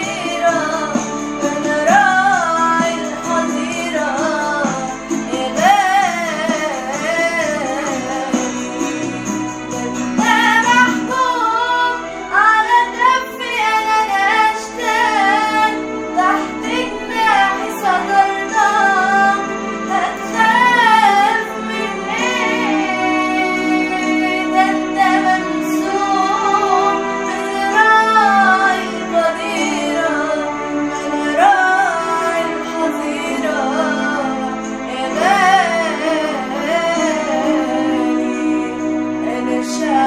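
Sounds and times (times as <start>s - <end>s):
woman singing a hymn: 0.0s - 8.9s, 9.7s - 40.0s
sustained instrumental backing: 0.0s - 40.0s.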